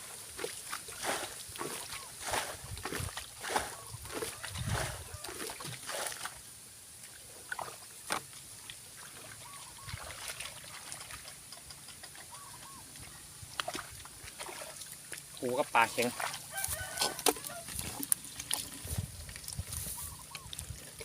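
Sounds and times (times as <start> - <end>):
muddy water sloshing and splashing: 0.0 - 21.0.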